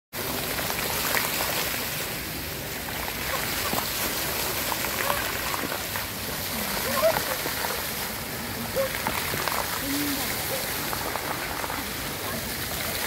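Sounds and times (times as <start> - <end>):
fountain water splashing: 0.2 - 13.0.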